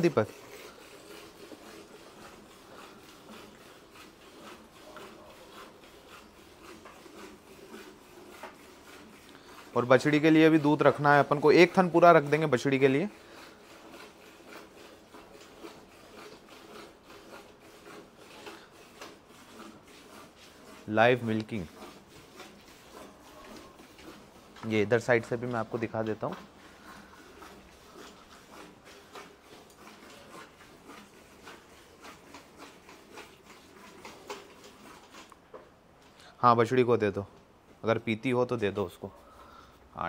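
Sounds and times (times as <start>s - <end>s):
milk squirting into bucket: 0.0s - 35.5s.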